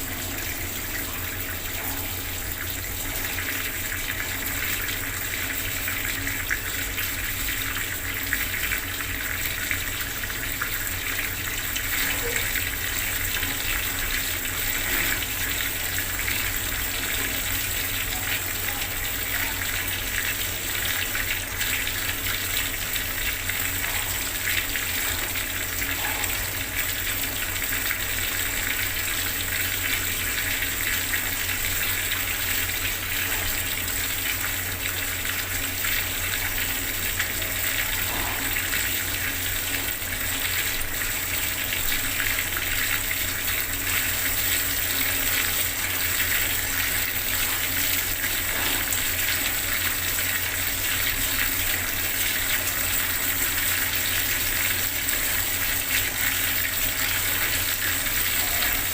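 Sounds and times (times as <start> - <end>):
water tap running: 0.0 - 58.9.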